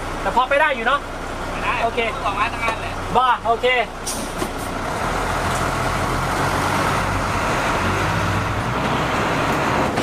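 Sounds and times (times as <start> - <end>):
road noise: 0.0 - 10.0
truck engine rumbling: 0.0 - 10.0.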